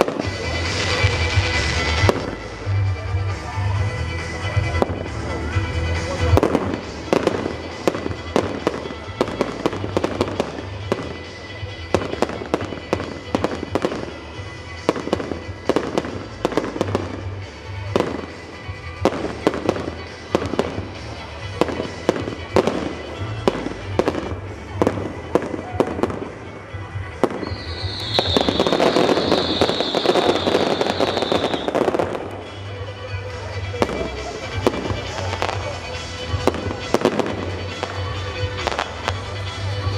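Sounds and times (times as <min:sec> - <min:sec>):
fireworks bursting: 0:00.0 - 0:03.4, 0:04.2 - 0:39.9
music playing: 0:00.0 - 0:39.9.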